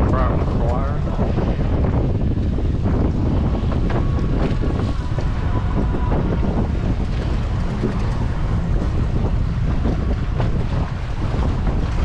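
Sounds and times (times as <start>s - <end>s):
waves and boat noise: 0.0s - 12.0s
wind buffeting microphone: 0.0s - 12.0s.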